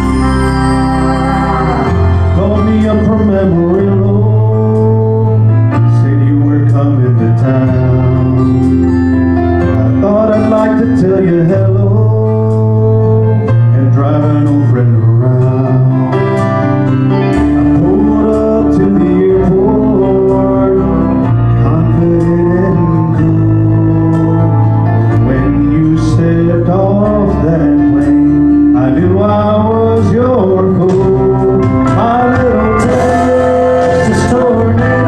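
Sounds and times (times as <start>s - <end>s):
country backing track with guitars: 0.0s - 35.0s.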